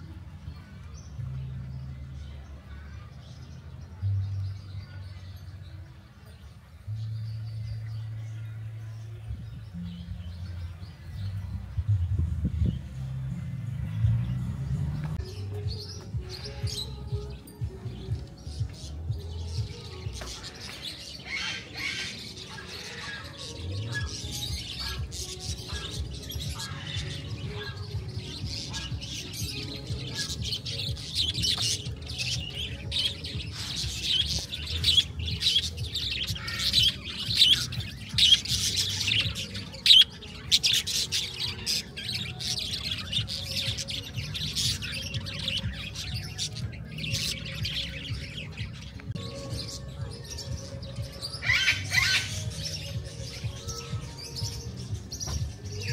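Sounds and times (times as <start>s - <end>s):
birds and parrots chirping and squawking: 0.0s - 55.9s.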